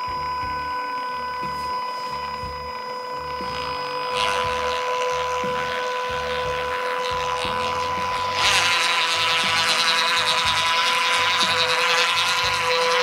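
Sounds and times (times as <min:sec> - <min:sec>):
caulking gun motor running: 0:00.0 - 0:13.0.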